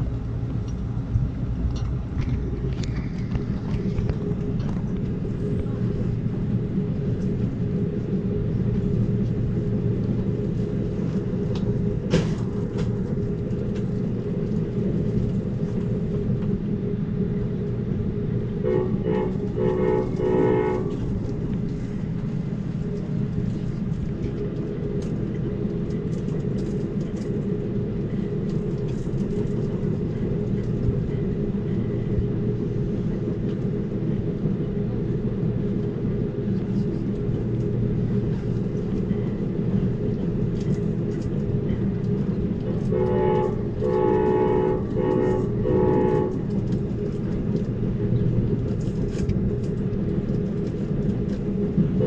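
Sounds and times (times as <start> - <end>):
train rumbling on track: 0.0 - 52.0.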